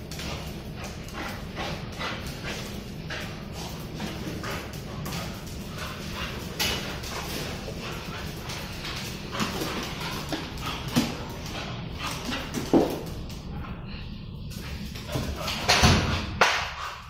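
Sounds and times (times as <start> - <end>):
dogs scuffling with claws on tiles: 0.0 - 13.7, 14.4 - 17.0.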